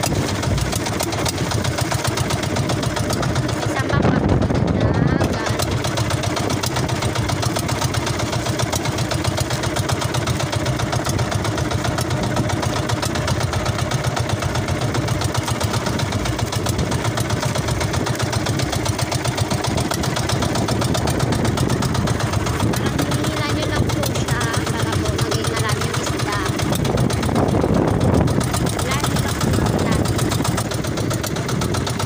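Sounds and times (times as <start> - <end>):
boat engine puttering: 0.0 - 32.0.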